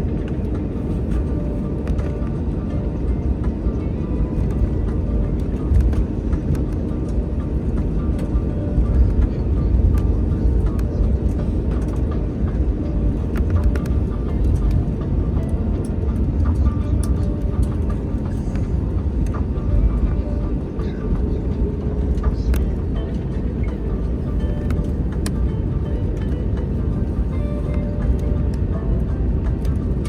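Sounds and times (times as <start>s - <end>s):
aircraft cabin low rumble: 0.0s - 30.0s.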